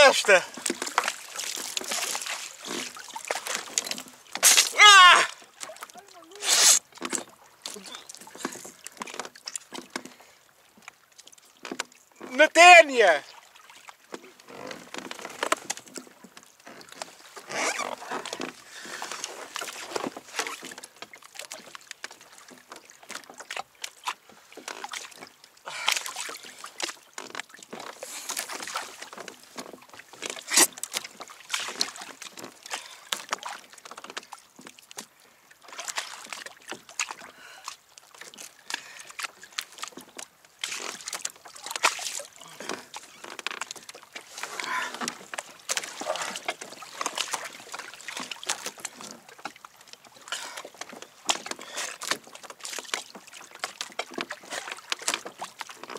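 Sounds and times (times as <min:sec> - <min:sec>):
water sloshing and splashing: 0:00.0 - 0:55.9.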